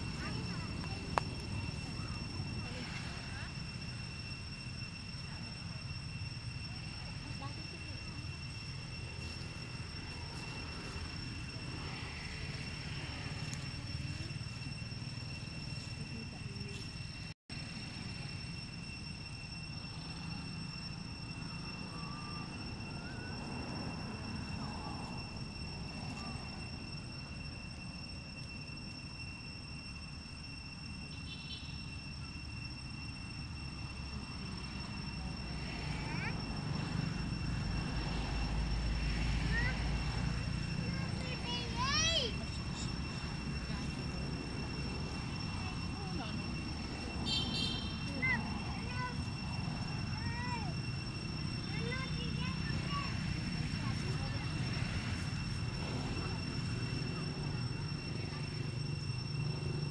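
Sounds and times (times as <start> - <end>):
faint high-pitched tones: 0.0 - 59.9
insects droning: 0.0 - 59.9
low engine-like rumble: 0.0 - 59.9.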